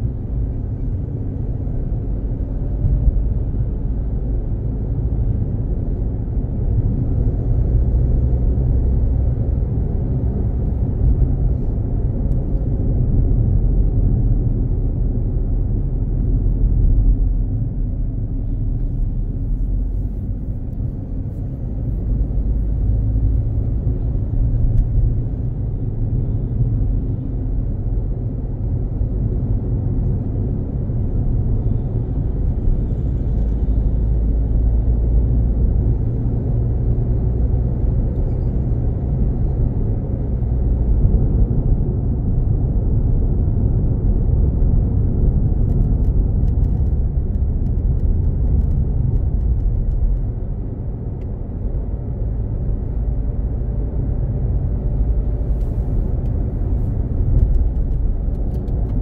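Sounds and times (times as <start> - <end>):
car road rumble at speed: 0.0 - 59.0.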